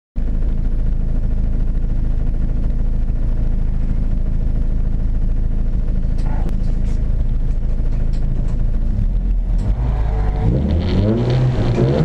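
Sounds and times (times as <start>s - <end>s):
car engine idling: 0.2s - 12.0s.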